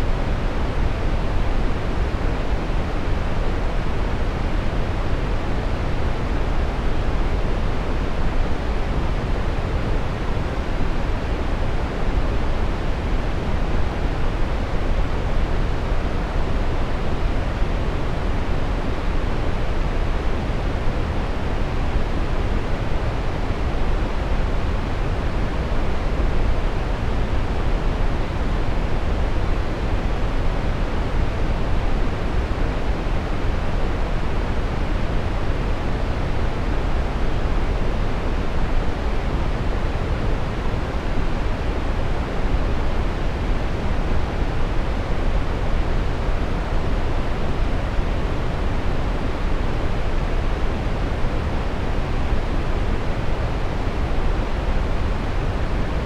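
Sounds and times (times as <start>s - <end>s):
brown noise: 0.0s - 56.0s.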